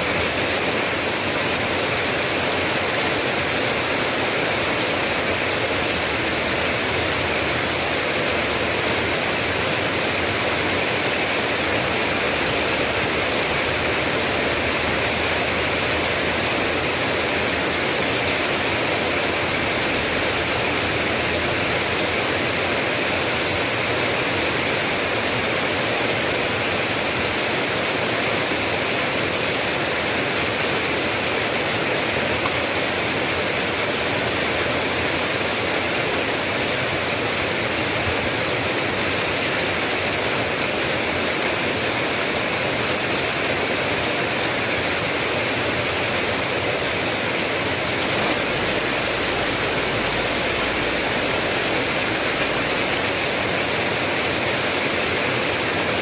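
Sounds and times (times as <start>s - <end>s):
dense rain hiss: 0.0s - 56.0s.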